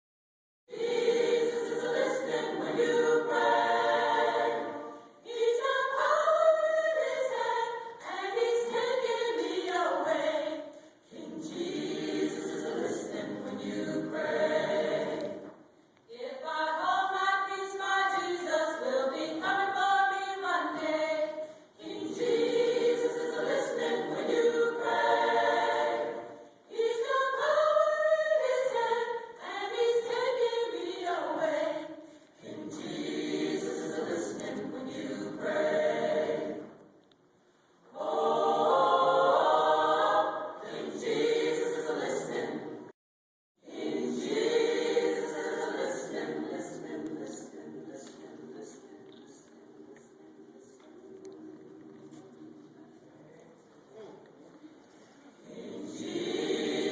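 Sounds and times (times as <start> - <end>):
choir singing: 0.7 - 37.0, 37.6 - 42.9, 43.6 - 56.9.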